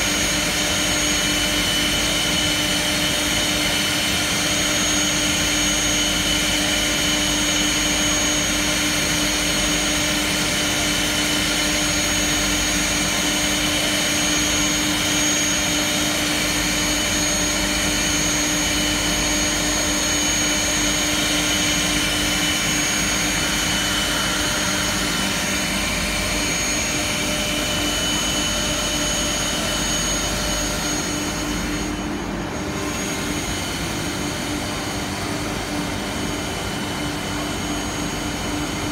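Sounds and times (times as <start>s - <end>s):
router spindles whining while cutting wood: 0.0s - 38.9s.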